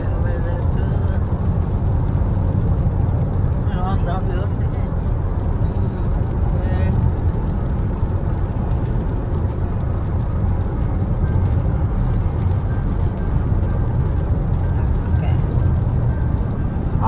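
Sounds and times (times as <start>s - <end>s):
tyre and road noise in car: 0.0s - 17.0s.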